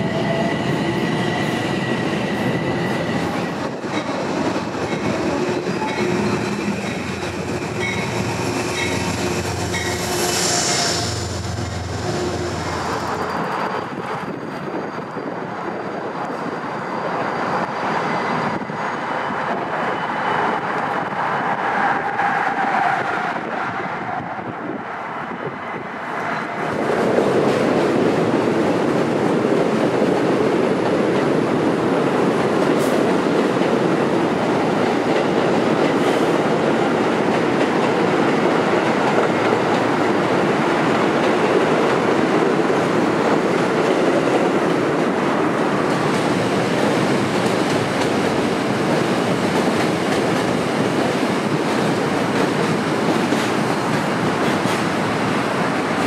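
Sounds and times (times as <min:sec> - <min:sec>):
subway train wheels on rails: 0:00.0 - 0:56.0.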